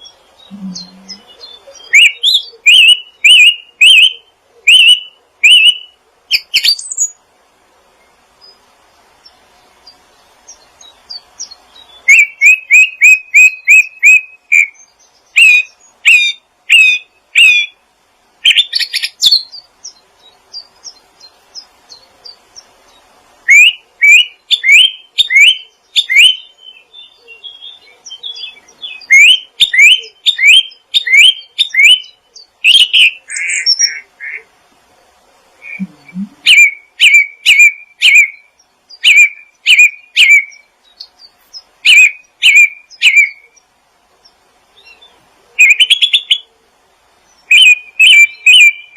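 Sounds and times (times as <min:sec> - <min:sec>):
songbird chirping sharp notes: 0:00.0 - 0:07.2, 0:08.0 - 0:17.8, 0:18.5 - 0:34.4, 0:35.6 - 0:46.5, 0:47.2 - 0:48.9.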